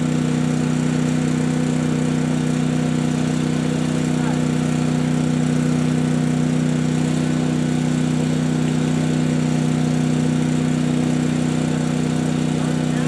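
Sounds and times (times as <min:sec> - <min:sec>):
generator and compressor humming: 0:00.0 - 0:13.0.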